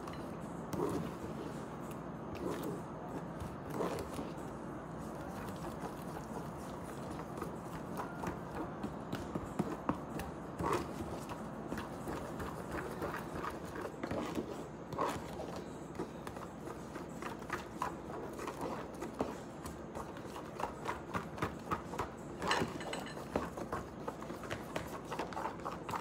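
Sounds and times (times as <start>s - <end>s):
spoon stirring thick batter: 2.4s - 9.0s, 9.6s - 26.0s.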